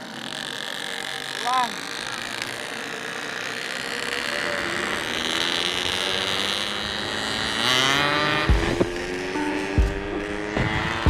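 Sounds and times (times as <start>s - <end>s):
two-stroke motorcycle engine running: 0.0s - 11.0s.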